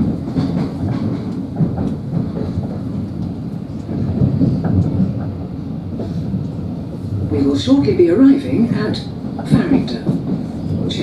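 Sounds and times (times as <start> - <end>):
train clatter and knocks: 0.0 - 11.0
train wheels rumbling on rails: 0.0 - 11.0.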